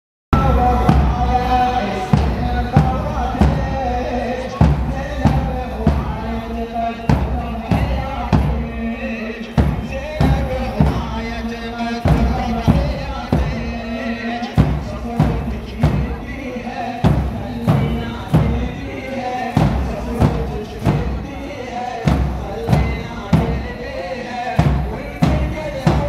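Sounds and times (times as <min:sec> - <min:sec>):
bass drum beating slowly: 0:00.4 - 0:26.0
person chanting a lament: 0:00.4 - 0:26.0.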